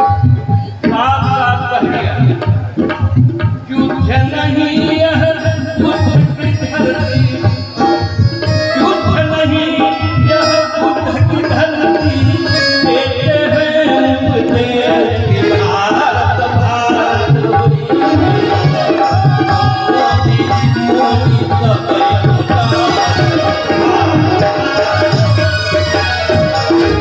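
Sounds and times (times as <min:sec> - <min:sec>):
tabla rhythm: 0:00.0 - 0:27.0
held melodic tones: 0:03.6 - 0:27.0.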